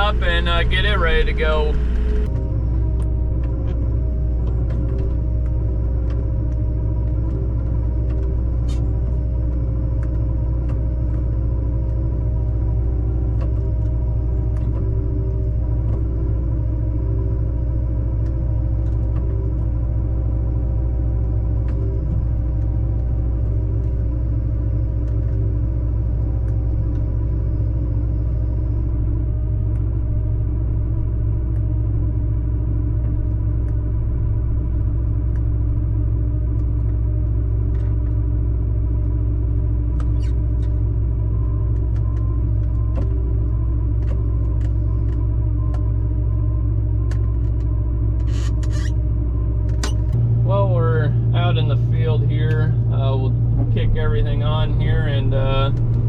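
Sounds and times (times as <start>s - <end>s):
heavy vehicle engine droning: 0.0s - 56.0s.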